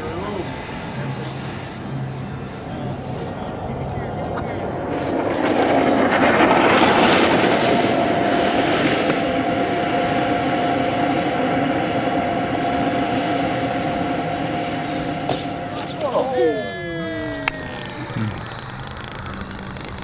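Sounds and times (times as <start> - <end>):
model airplane motor whine: 0.0 - 20.0.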